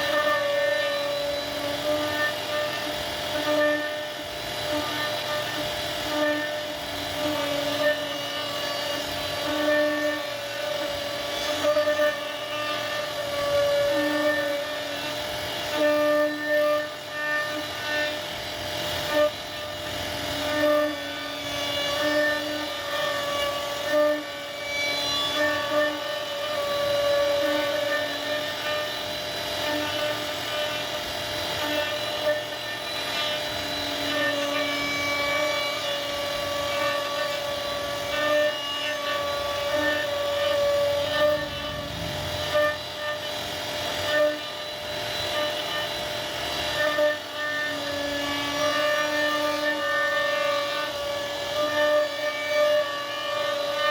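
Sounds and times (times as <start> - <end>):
bit cutting wood: 0.0 - 53.9
router spindle whining: 0.0 - 53.9.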